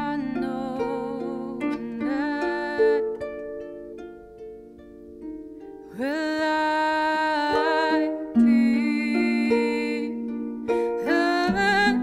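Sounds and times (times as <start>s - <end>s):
woman singing: 0.0s - 3.6s, 5.9s - 12.0s.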